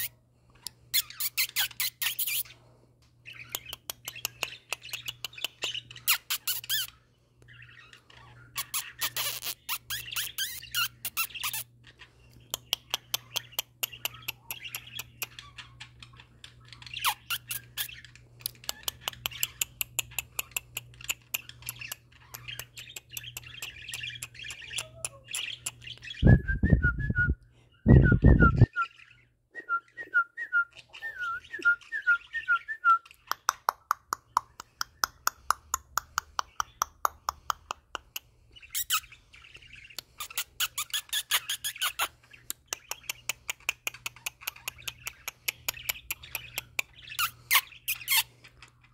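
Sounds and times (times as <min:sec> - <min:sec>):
budgerigars warbling and chattering: 0:00.0 - 0:26.4, 0:30.7 - 0:48.9
bird chirping: 0:00.0 - 0:48.9.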